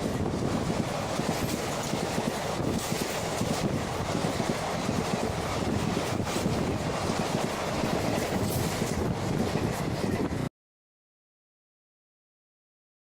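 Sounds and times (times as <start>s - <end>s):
train wheels rumbling on rail: 0.0s - 10.5s
wind buffeting microphone: 0.0s - 10.5s.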